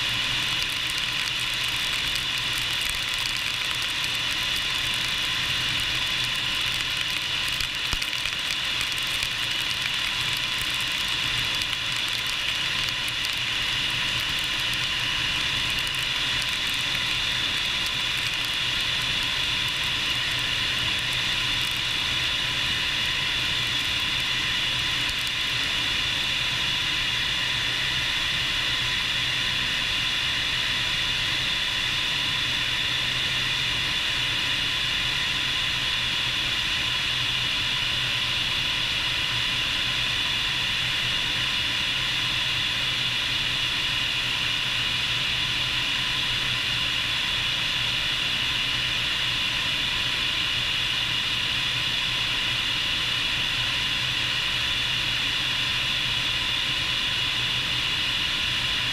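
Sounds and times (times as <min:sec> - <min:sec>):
helicopter turbine whine: 0:00.0 - 0:58.9.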